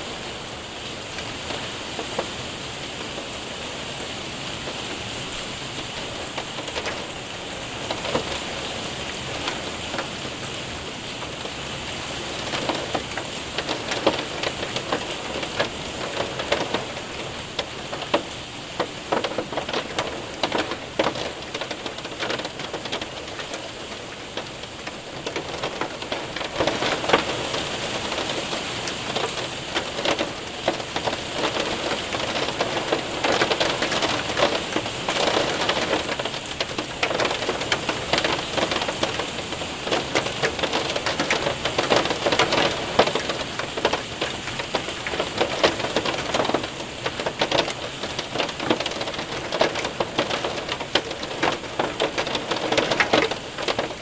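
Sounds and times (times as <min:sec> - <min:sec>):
hail ticking on window and roof: 0:00.0 - 0:54.0
rain rushing: 0:00.0 - 0:54.0.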